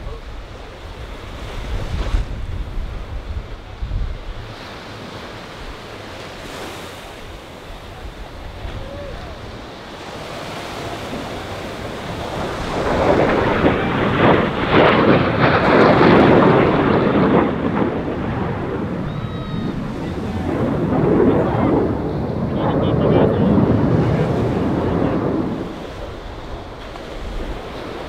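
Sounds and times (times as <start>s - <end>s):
surf: 0.0s - 28.0s
wind on microphone: 0.0s - 28.0s
jet engines passing low: 2.3s - 28.0s.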